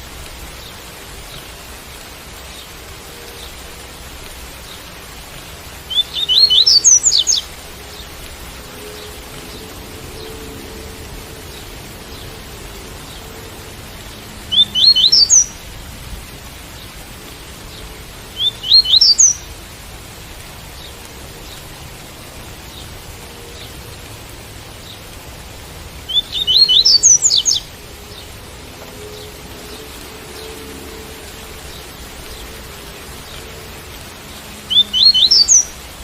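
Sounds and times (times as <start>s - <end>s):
rain hiss: 0.0s - 36.0s.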